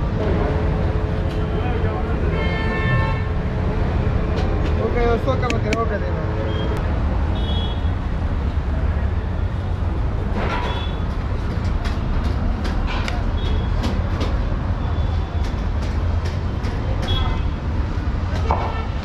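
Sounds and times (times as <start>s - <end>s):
busy street traffic rumble: 0.0s - 19.0s.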